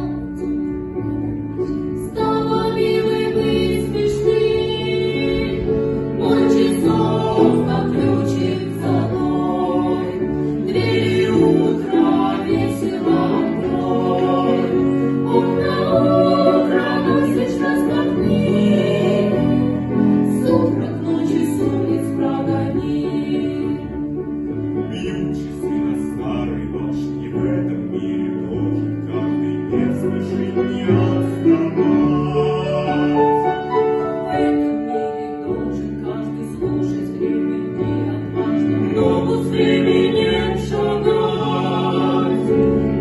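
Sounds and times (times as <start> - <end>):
voices singing together: 0.0 - 24.2, 24.9 - 43.0
piano accompaniment: 0.0 - 43.0.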